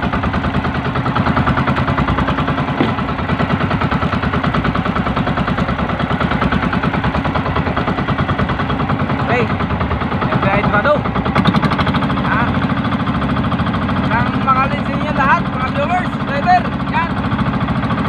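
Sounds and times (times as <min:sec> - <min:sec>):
boat engine puttering: 0:00.0 - 0:18.0.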